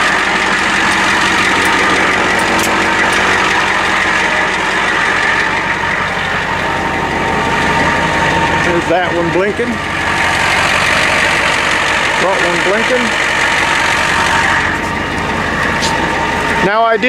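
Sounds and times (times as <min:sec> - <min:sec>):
diesel engine idling with rattle: 0:00.0 - 0:17.0.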